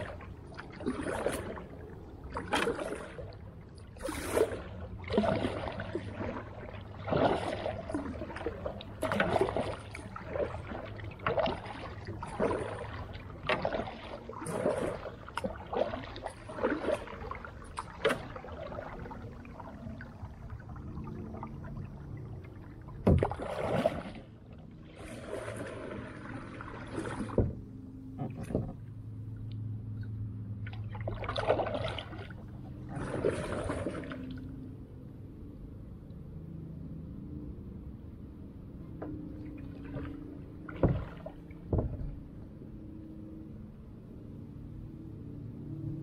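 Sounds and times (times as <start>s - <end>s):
creek water splashing: 0.0s - 34.8s, 39.3s - 42.4s.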